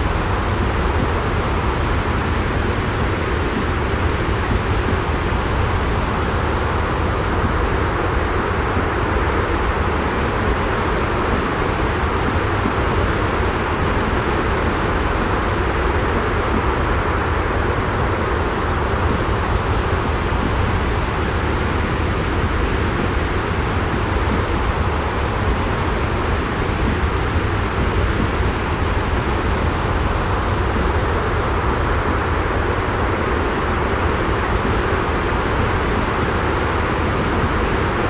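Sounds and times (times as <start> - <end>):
white noise rumble and hiss: 0.0 - 38.0.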